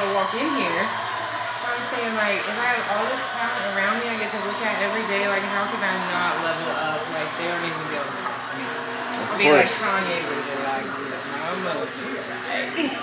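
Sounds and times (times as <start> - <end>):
electric hair clippers running: 0.0 - 13.0.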